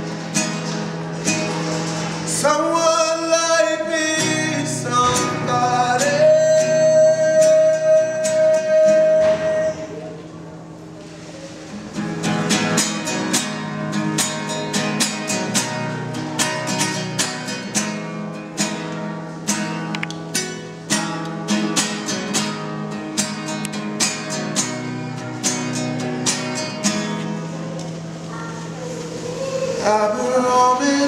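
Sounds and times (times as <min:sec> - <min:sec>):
classical guitar strumming: 0:00.0 - 0:31.0.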